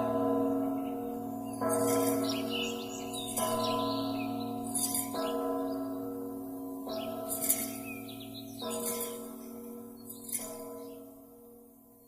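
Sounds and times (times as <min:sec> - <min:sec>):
church bell ringing: 0:00.0 - 0:12.0.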